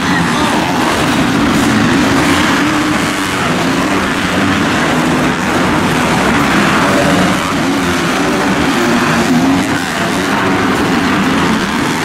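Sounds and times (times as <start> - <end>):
motocross engines revving: 0.0 - 12.0.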